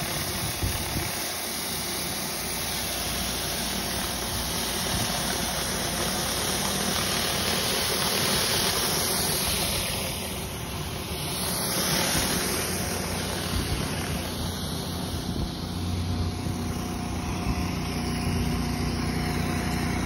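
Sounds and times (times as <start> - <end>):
low engine hum: 0.0 - 20.0
pressure washer water hiss: 0.0 - 20.0.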